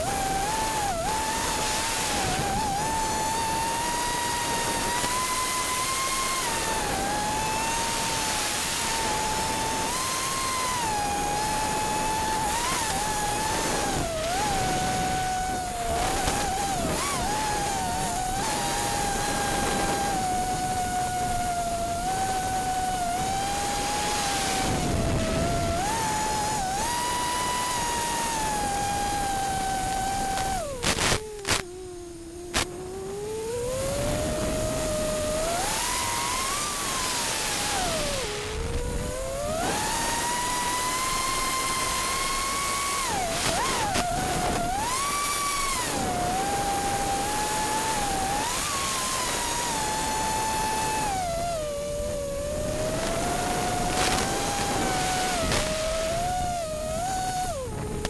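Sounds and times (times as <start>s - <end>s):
quadcopter motors whining: 0.0s - 58.0s
steady rushing hiss: 0.0s - 58.0s.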